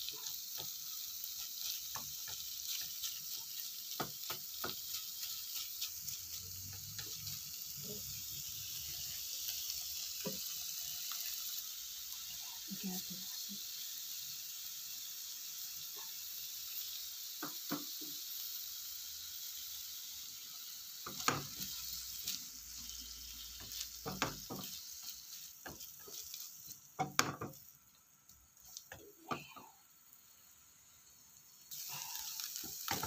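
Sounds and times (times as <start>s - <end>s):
shrimp sizzling in a frying pan: 0.0s - 33.0s.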